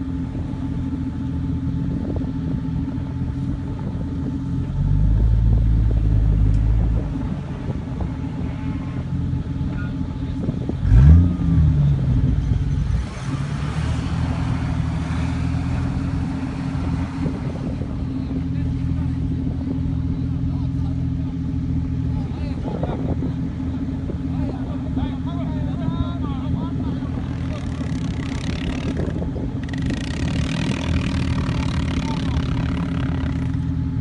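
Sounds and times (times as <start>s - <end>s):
engine running and revving: 0.0s - 21.3s, 26.4s - 34.0s.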